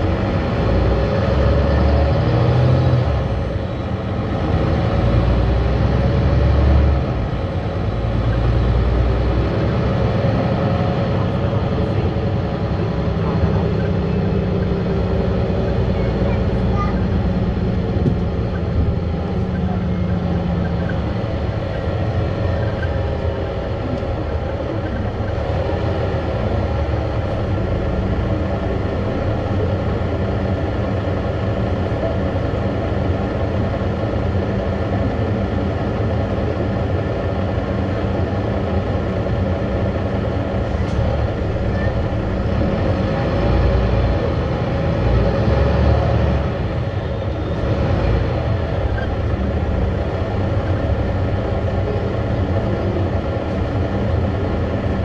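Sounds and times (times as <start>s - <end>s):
bus engine rumble: 0.0s - 55.0s
tyre and road noise: 0.0s - 55.0s.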